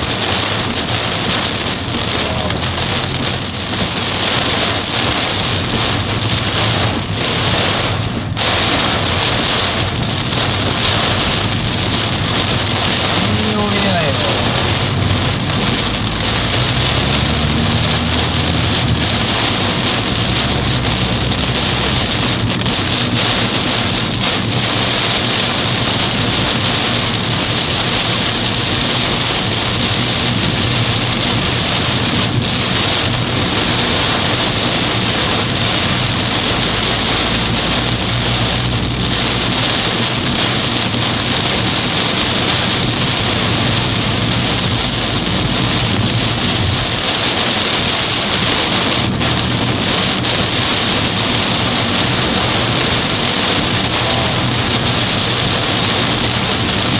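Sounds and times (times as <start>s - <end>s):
heavy rain on a car: 0.0s - 56.9s.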